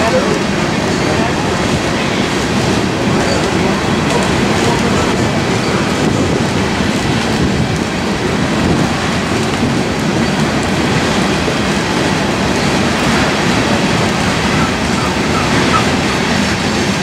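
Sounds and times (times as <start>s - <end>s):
train wheels rumbling and rattling: 0.0s - 17.0s.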